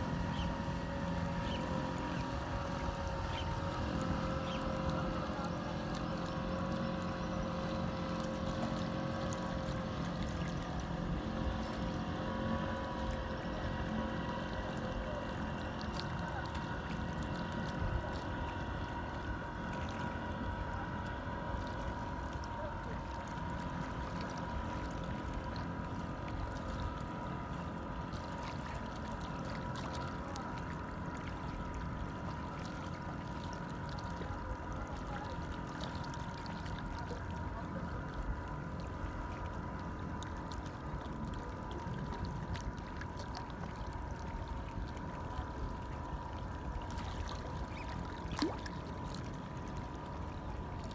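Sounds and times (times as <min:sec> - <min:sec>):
boat motor running: 0:00.0 - 0:50.9.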